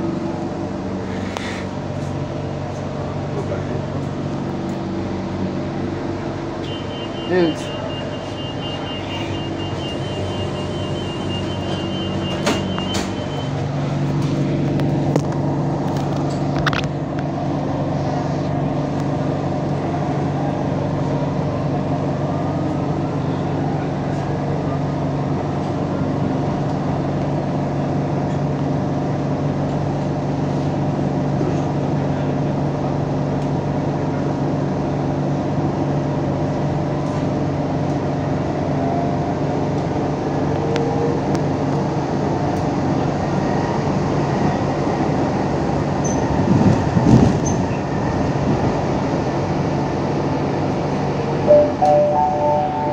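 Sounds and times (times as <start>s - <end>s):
train running: 0.0s - 52.9s.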